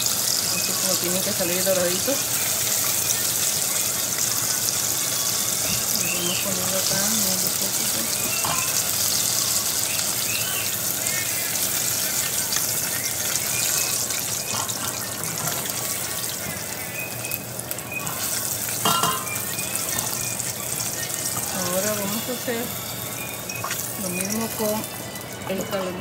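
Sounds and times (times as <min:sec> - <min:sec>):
fish deep-frying in oil: 0:00.0 - 0:26.0.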